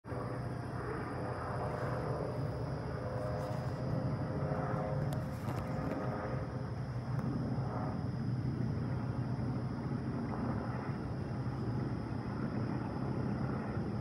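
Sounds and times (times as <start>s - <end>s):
helicopter rotor and engine drone: 0.1s - 14.0s.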